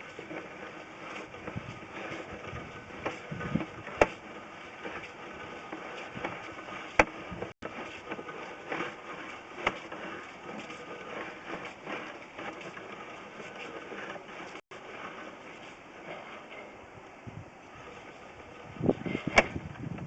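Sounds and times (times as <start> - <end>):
push cable mechanical noise: 0.0 - 20.0.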